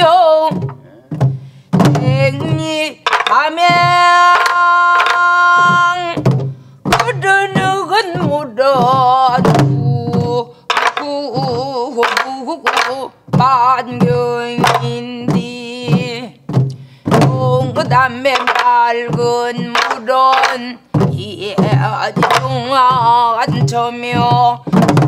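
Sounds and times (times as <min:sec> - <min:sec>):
woman singing: 0:00.0 - 0:01.2, 0:01.8 - 0:16.5, 0:17.1 - 0:24.8
barrel drum strokes: 0:00.0 - 0:25.0.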